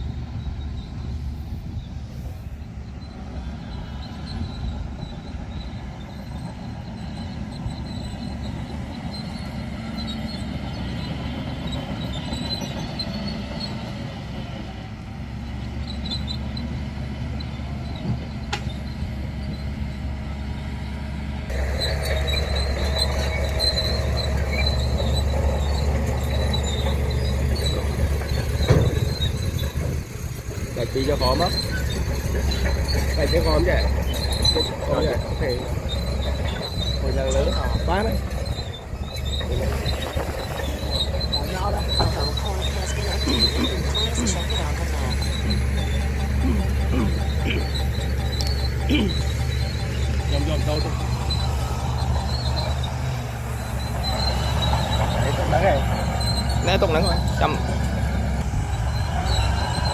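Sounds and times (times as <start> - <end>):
high metallic squeal of tracks: 0.0 - 14.5, 15.5 - 59.9
bulldozer diesel engine under load: 0.0 - 59.9.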